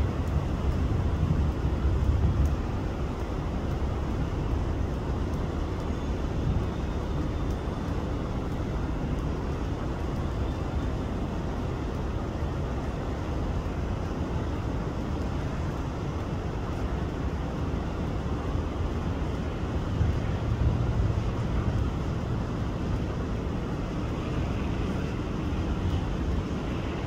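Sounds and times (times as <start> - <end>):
diesel railcar rumbling: 0.0 - 27.0.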